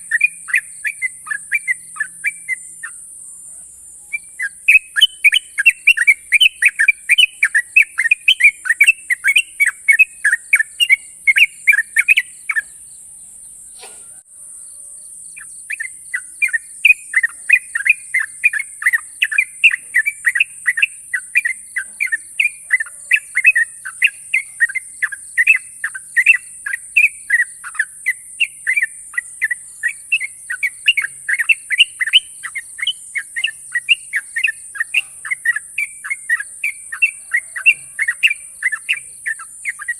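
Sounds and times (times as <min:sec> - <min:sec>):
bird chirping rapidly: 0:00.0 - 0:14.2, 0:15.2 - 0:39.9.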